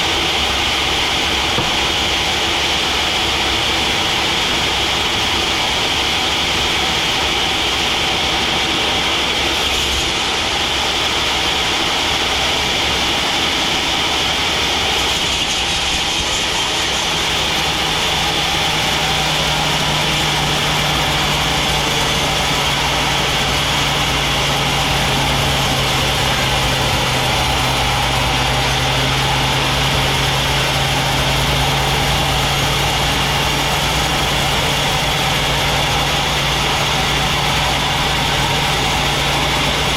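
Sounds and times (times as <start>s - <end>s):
band saw machinery running: 0.0s - 39.9s.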